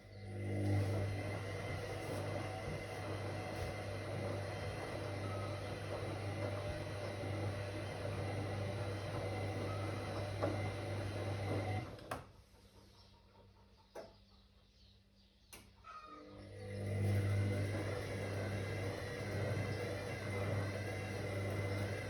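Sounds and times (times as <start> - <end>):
washing machine motor humming: 0.0 - 12.3, 16.2 - 22.0.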